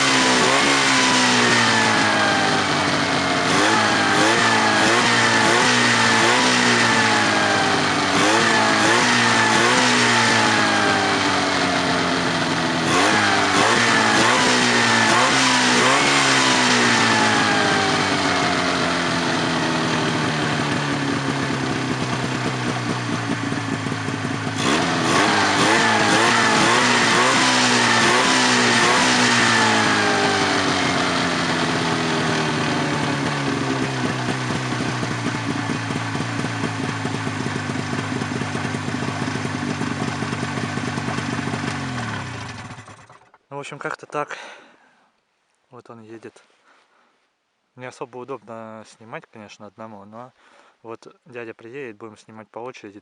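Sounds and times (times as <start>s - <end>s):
snowmobile engine running: 0.0s - 43.2s.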